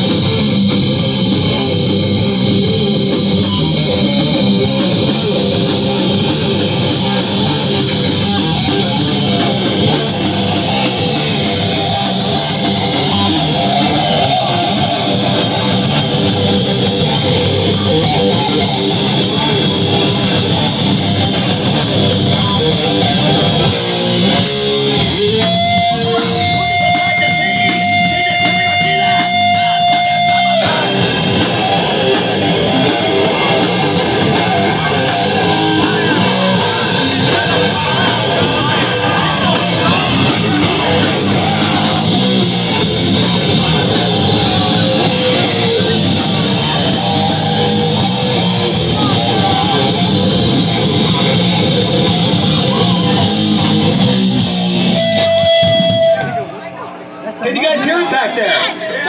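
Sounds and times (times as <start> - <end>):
rock band playing: 0.0 - 57.2.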